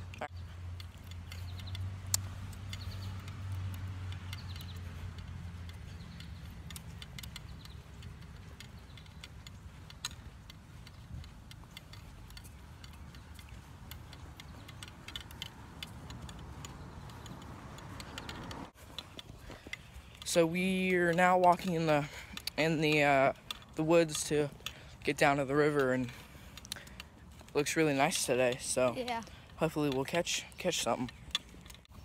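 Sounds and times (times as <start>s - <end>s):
footsteps and gear clicks: 0.0s - 32.0s.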